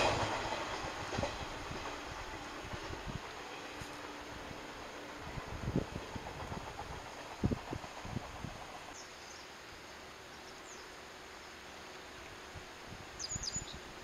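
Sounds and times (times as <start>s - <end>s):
faint steady hiss: 0.1s - 14.0s.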